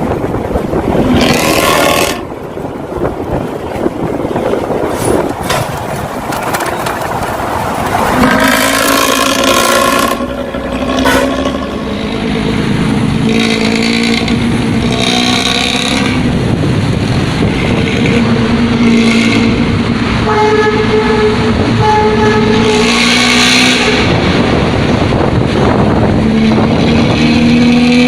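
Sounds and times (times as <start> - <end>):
bus engine revving: 0.0 - 28.0.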